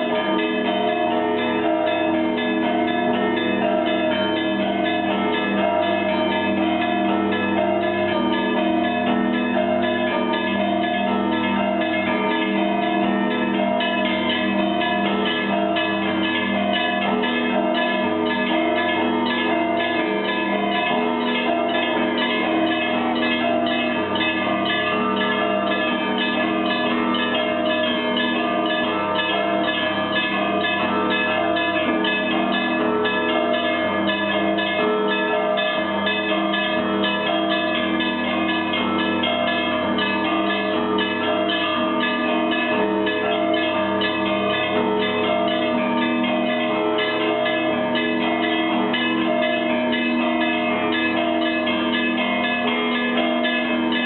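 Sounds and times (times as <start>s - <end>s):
large bells ringing: 0.0s - 54.0s.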